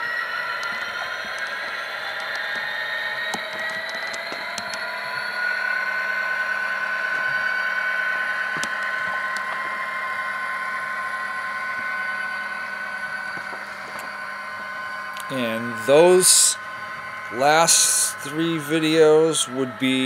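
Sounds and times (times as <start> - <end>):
model train diesel engine sound: 0.0 - 20.0
steady whine: 0.0 - 20.0.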